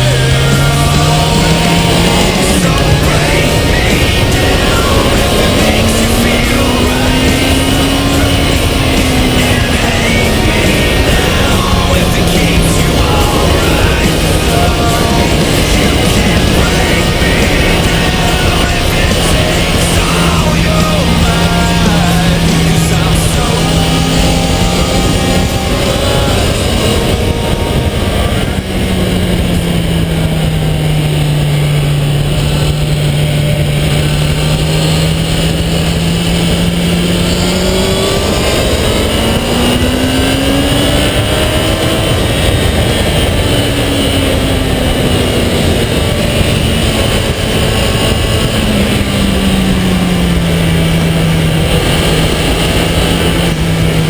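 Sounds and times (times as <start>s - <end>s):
motorcycle engine at speed: 0.0s - 54.0s
wind rush over microphone: 0.0s - 54.0s.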